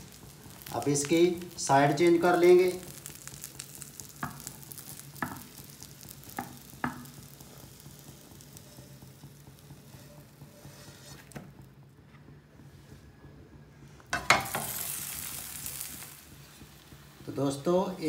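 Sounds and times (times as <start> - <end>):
oil sizzling in a frying pan: 0.0 - 11.7, 14.1 - 18.0.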